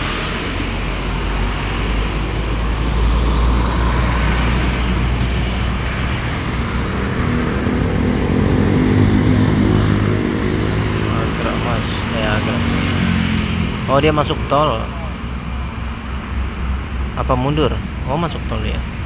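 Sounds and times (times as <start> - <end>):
bus engine hum: 0.0 - 19.0
road traffic passing: 0.0 - 19.0.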